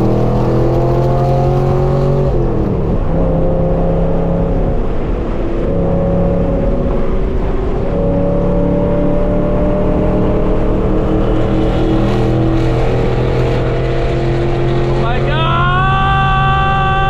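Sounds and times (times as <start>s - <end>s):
car exhaust droning: 0.0s - 17.0s.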